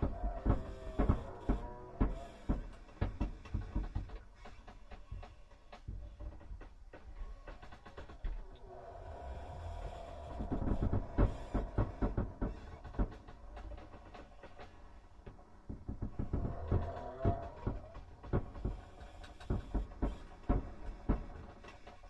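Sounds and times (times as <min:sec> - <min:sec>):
irregular knocks and rattles: 0:00.0 - 0:08.6, 0:09.9 - 0:22.0.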